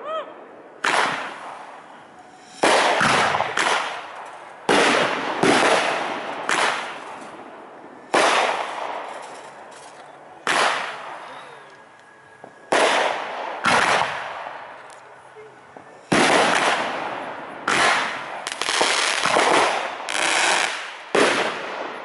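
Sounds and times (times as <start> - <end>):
fireworks bursting: 0.5 - 22.0.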